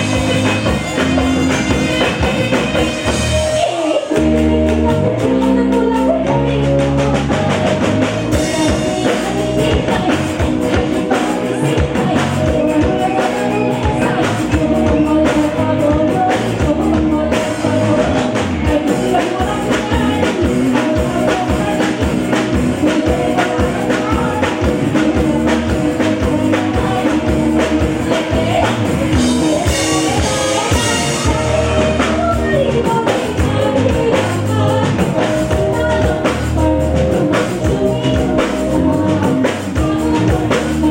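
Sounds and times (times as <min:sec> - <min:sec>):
drums beating steadily: 0:00.0 - 0:40.9
live band music: 0:00.0 - 0:40.9
person singing: 0:00.0 - 0:40.9.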